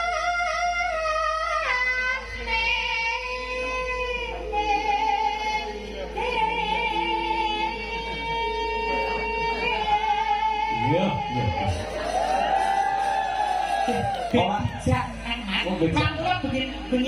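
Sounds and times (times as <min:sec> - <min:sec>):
woman singing long wavering notes: 0:00.0 - 0:14.3
music accompaniment: 0:00.0 - 0:17.0.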